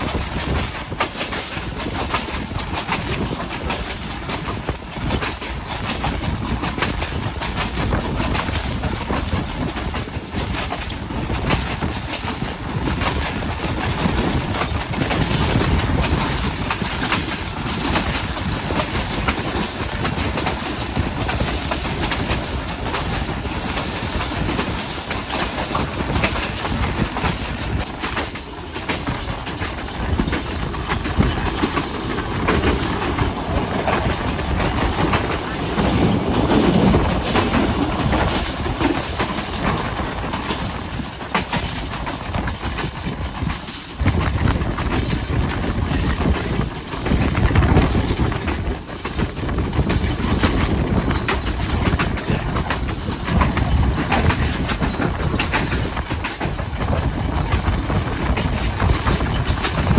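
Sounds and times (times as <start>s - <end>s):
train rumble: 0.0s - 59.9s
train wheels clattering over rail joints: 0.0s - 59.9s.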